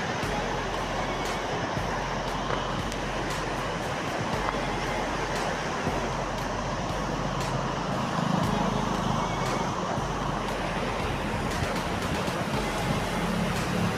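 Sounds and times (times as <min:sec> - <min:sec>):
waterfall roaring: 0:00.0 - 0:13.9
low rumble: 0:00.2 - 0:13.9.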